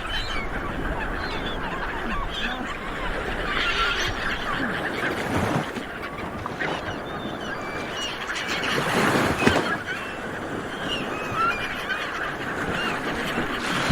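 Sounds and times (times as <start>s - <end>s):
birds chirping: 0.0s - 13.9s.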